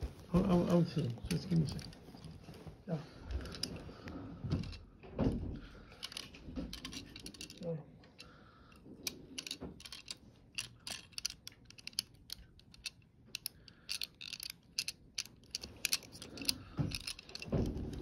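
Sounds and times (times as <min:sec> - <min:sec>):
toy cars and packaging rattling: 0:00.7 - 0:02.5, 0:03.3 - 0:03.8, 0:05.8 - 0:18.0.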